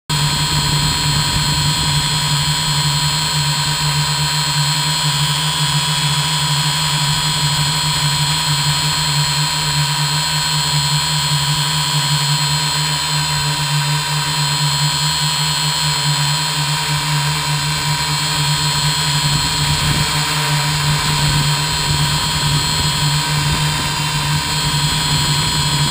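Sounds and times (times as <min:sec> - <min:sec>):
drone propellers whirring: 0:00.1 - 0:25.9.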